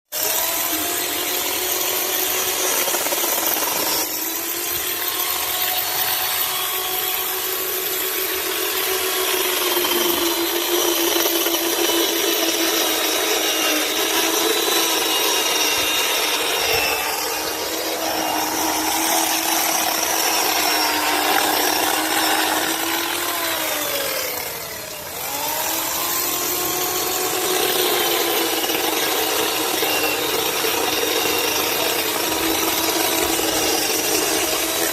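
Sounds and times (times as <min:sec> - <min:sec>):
chainsaw cutting wood: 0:00.1 - 0:34.9.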